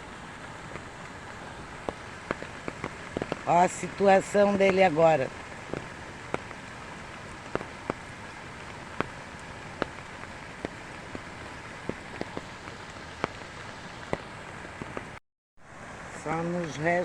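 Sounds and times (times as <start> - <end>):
large raindrops tapping: 0.0 - 15.2
steady rain: 0.0 - 17.0.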